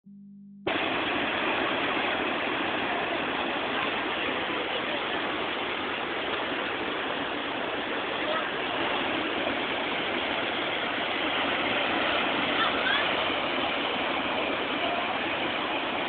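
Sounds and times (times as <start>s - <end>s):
ocean waves breaking: 0.7s - 16.0s.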